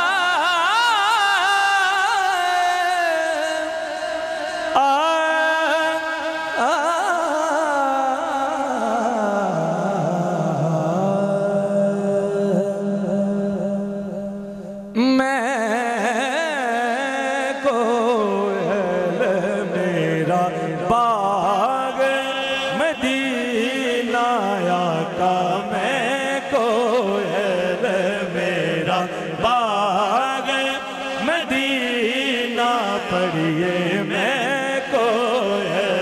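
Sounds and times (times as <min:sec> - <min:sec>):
man singing ornamented phrases: 0:00.0 - 0:36.0.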